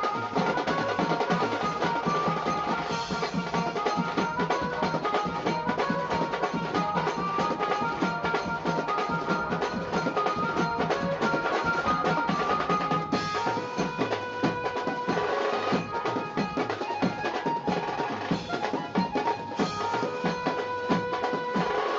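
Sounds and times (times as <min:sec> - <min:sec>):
music with fast drumming: 0:00.0 - 0:21.9.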